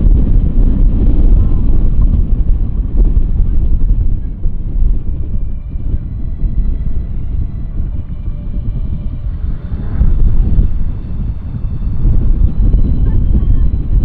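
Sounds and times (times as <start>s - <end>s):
boat motor running: 0.0s - 14.0s
wind buffeting microphone: 0.0s - 14.0s.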